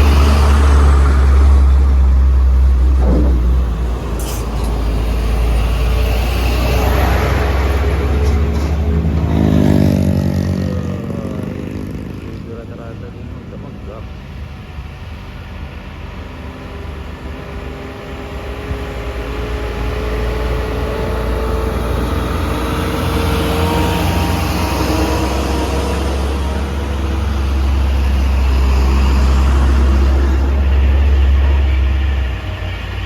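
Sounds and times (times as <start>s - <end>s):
truck diesel engine labouring: 0.0s - 33.0s.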